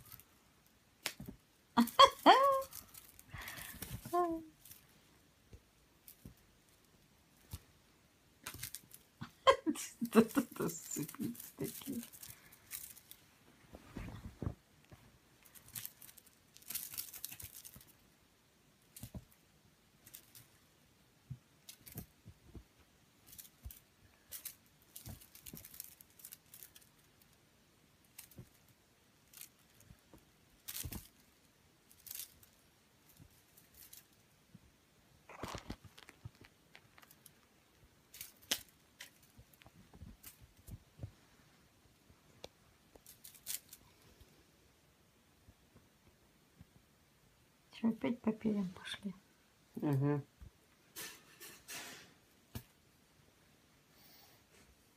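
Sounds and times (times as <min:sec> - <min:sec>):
rustling and scratching of fabric: 0:00.0 - 0:44.5.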